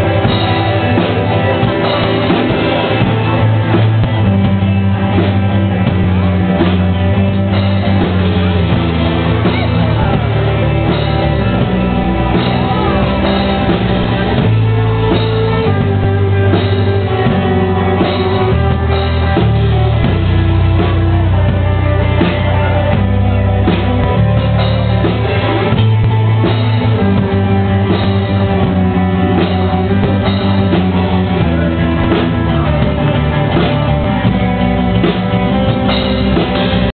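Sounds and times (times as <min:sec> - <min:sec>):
bass: 0:00.0 - 0:36.9
drum kit steady beat: 0:00.0 - 0:36.9
electric guitars: 0:00.0 - 0:36.9.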